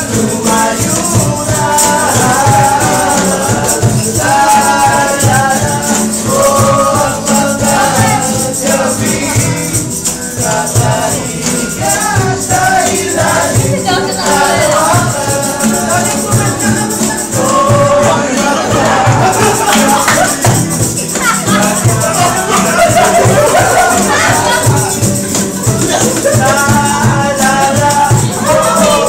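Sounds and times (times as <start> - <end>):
acoustic guitars strummed: 0.0 - 29.0
cajon beat: 0.0 - 29.0
men singing: 0.0 - 29.0.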